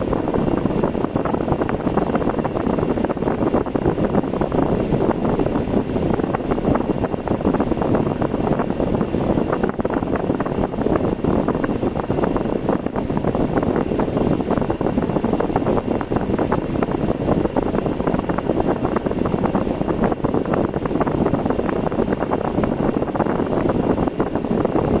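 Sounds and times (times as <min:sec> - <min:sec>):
car road and wind noise: 0:00.0 - 0:25.0
wind buffeting microphone: 0:00.0 - 0:25.0.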